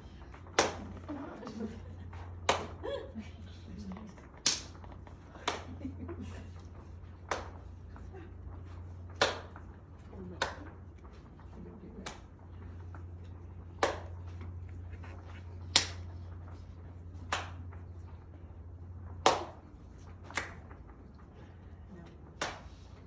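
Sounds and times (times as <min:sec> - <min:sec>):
hand claps: 0:00.2 - 0:03.1, 0:04.2 - 0:23.0.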